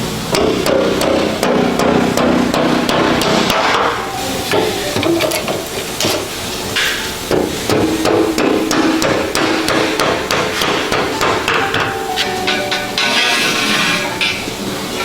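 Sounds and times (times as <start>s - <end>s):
hammer striking metal: 0.3s - 14.5s.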